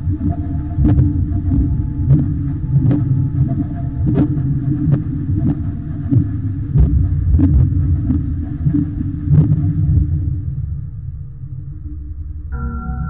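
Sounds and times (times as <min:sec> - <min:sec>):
wind and water rumbling on microphone: 0:00.0 - 0:12.5.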